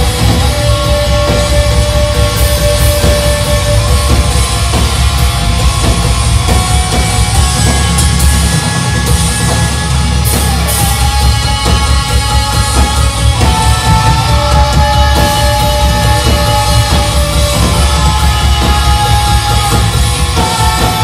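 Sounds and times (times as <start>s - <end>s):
drum hits: 0.0s - 21.0s
metal band playing loudly: 0.0s - 21.0s.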